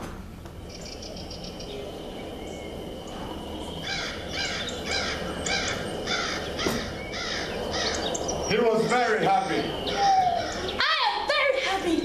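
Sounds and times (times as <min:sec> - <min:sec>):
harsh falling bird calls: 0:00.1 - 0:12.0
bird chirping: 0:00.3 - 0:11.0.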